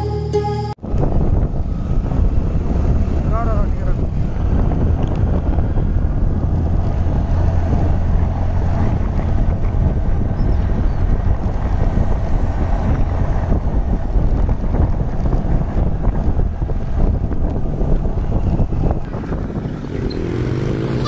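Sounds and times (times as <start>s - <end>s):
wind buffeting microphone: 0.8s - 21.0s.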